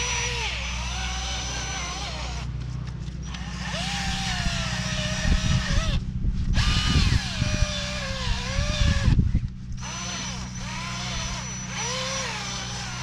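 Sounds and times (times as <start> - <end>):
drill motor whine: 0.0 - 2.5, 3.2 - 13.0.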